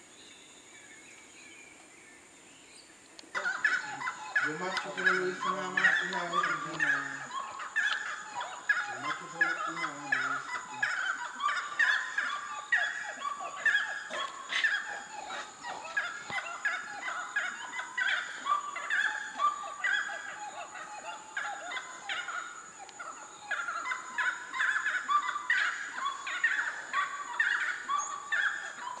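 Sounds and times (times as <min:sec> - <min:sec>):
wood-rails calling in chorus: 0:03.3 - 0:29.0.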